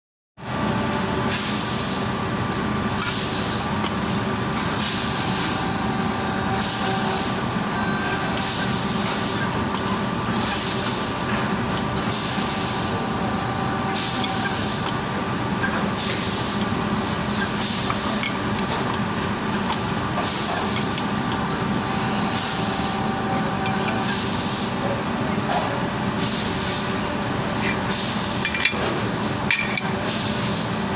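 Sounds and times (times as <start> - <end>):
bending machine humming and hissing: 0.4 - 30.9.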